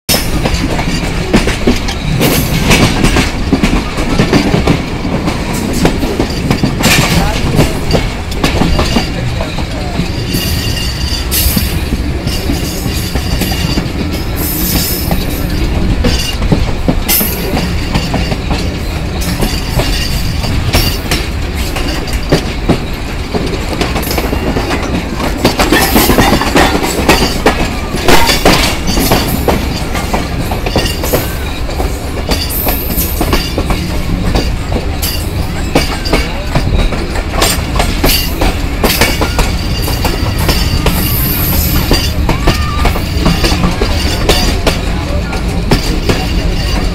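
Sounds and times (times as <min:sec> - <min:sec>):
train wheels rumbling on rails: 0:00.1 - 0:46.9.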